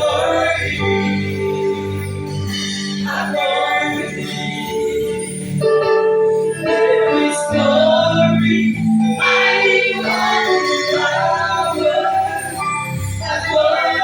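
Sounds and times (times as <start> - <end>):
voices singing worship song: 0.0 - 5.6, 6.6 - 14.0
instrumental accompaniment: 0.0 - 14.0.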